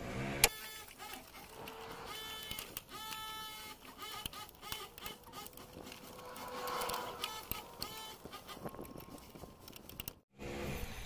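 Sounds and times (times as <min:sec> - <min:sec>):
screwdriver clicking and scraping: 0:01.0 - 0:10.2.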